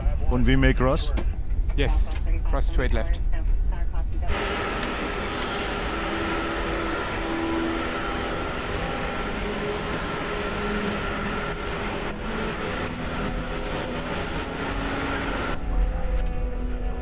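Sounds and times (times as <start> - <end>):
airliner taxiing: 3.1 - 17.0
faint steady tones: 3.2 - 17.0.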